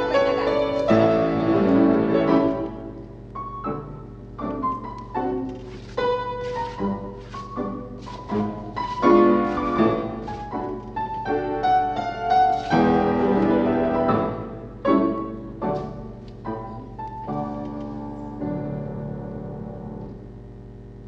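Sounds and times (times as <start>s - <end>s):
classical piano playing: 0.0s - 20.2s.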